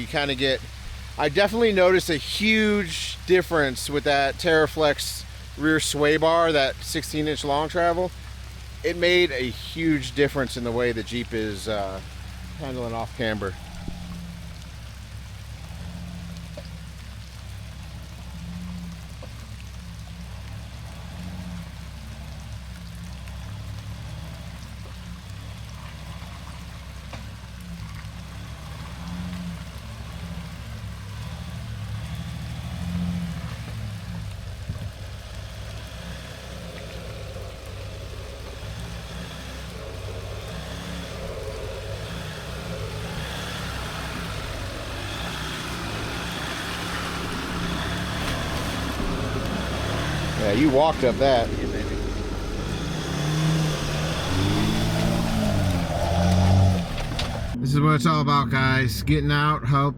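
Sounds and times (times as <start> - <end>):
diesel truck engine crawling: 0.0 - 59.9.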